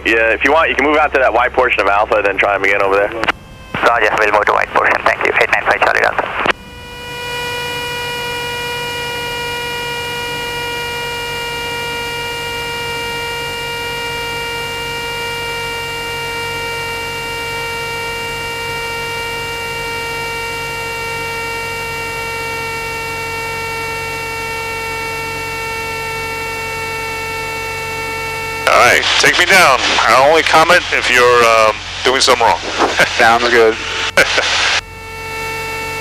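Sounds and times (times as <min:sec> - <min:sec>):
electrical whine in intercom: 0:00.0 - 0:36.0.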